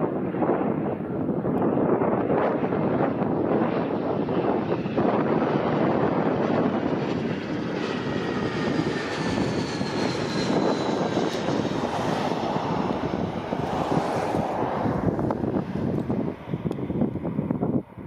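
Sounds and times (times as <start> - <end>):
faint engine whine: 0.0 - 18.0
jet engines rumbling: 0.0 - 18.0.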